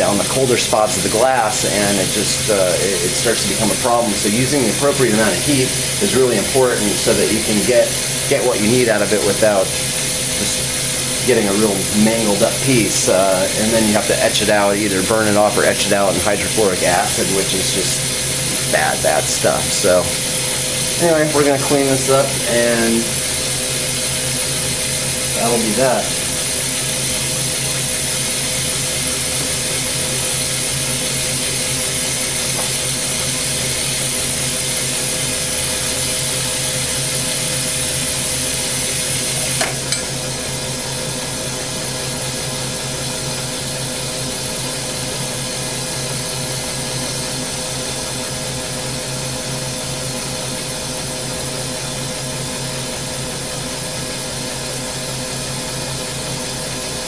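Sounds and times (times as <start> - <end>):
lathe humming: 0.0 - 57.0
torch flame hissing: 0.0 - 57.0.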